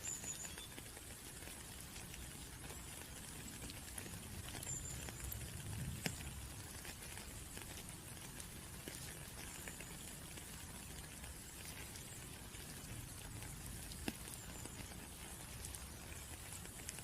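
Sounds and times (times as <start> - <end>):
faint drips: 0.0 - 17.0
raindrops pattering: 0.0 - 17.0.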